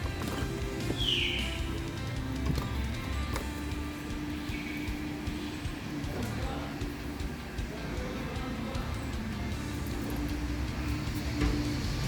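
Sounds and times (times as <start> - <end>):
background music: 0.0 - 12.0
engine running: 0.0 - 12.0.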